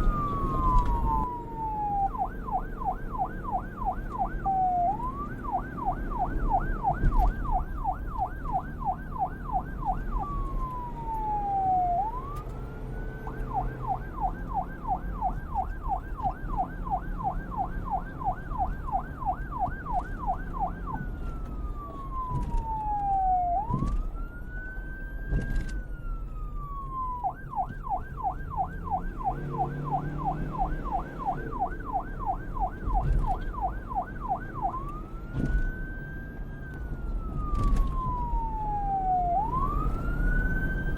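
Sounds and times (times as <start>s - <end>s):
police siren yelp and wail: 0.0s - 40.9s.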